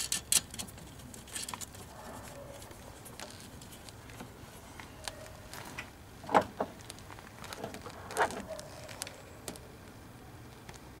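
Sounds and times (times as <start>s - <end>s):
light clicks and rustles: 0.0s - 9.7s.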